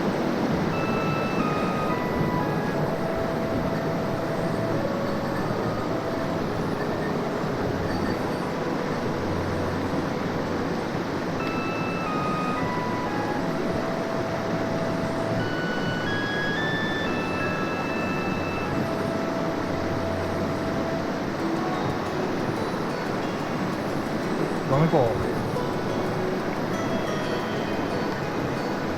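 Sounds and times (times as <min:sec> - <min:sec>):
light melody: 0:00.0 - 0:28.9
stream water rushing: 0:00.0 - 0:28.9.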